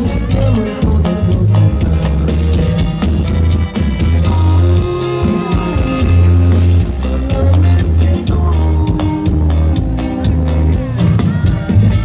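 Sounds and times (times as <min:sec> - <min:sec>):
heavy bass line: 0:00.0 - 0:12.0
live band music: 0:00.0 - 0:12.0
steady drum beat: 0:00.0 - 0:12.0.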